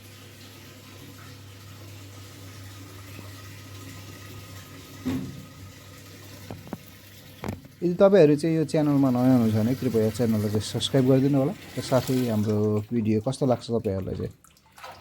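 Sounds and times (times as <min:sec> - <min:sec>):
washing machine hum: 0:00.0 - 0:15.0
washing machine water sloshing: 0:00.0 - 0:15.0.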